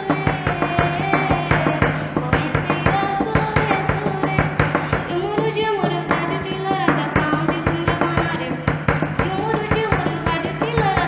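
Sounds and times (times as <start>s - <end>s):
child singing: 0.0s - 8.6s, 9.2s - 11.0s
percussion beat: 0.0s - 11.0s.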